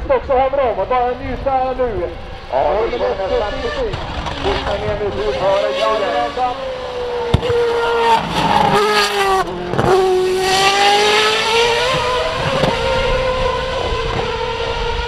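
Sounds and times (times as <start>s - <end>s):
racing car engine at high revs: 2.8s - 15.0s.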